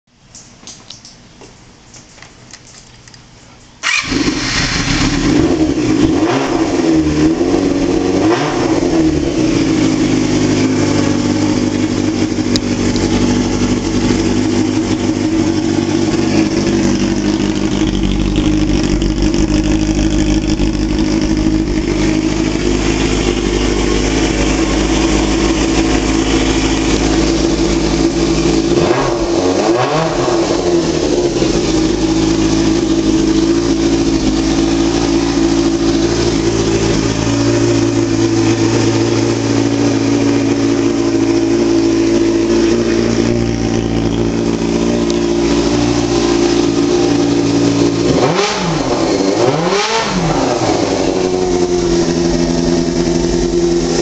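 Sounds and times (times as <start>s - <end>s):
motorcycle engine idling and revving: 3.8s - 54.0s.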